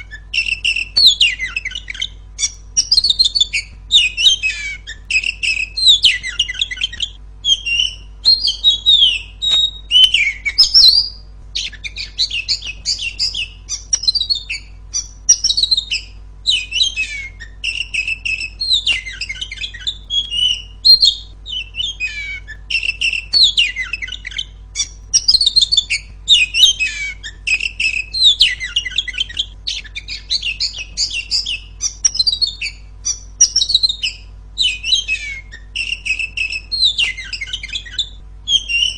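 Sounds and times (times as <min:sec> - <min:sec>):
bird singing varied chirps: 0:00.0 - 0:38.9.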